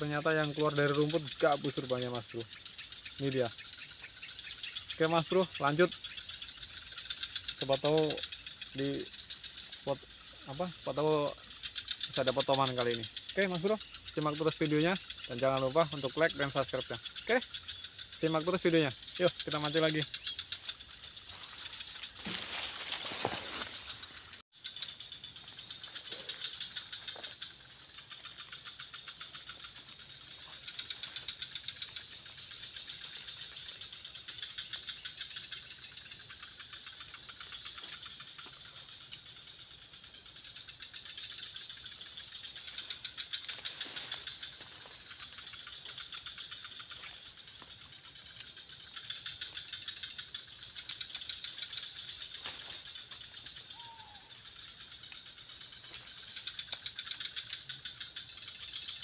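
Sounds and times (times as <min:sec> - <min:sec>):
tropical insects trilling: 0:00.0 - 0:59.0.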